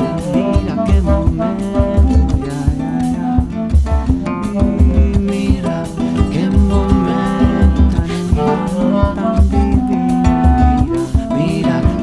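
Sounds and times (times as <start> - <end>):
drum and bass beat: 0.0 - 12.0
sustained melodic instrument lines: 0.0 - 12.0.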